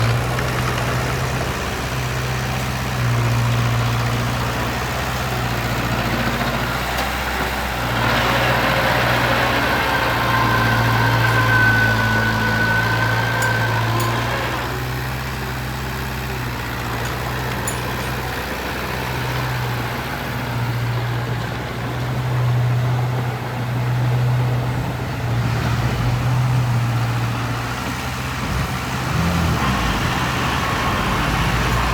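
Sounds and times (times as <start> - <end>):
diesel engine humming: 0.0 - 31.9.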